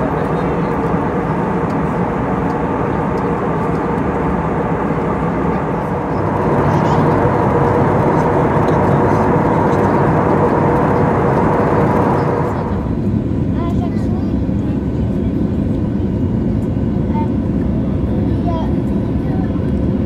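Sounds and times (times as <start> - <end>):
airplane cabin engine rush: 0.0 - 20.0.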